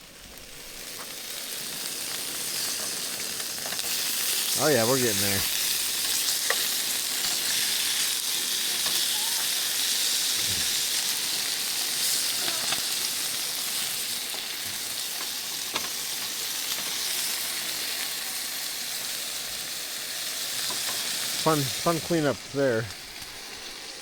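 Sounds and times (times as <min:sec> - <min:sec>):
patties sizzling in a pan: 0:00.0 - 0:24.0.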